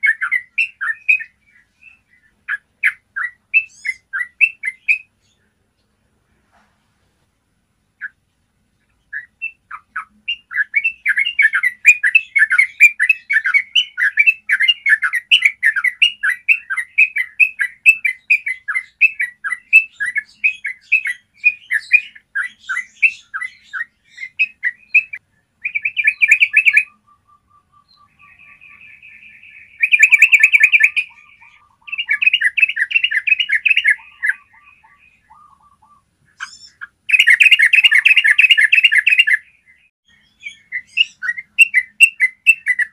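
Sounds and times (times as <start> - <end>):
bird chirping rapidly: 0.0 - 5.4, 8.9 - 42.9.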